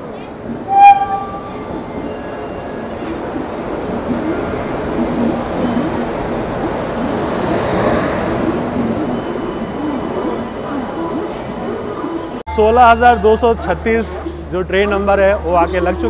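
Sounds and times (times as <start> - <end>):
train coaches rumbling: 0.0 - 16.0.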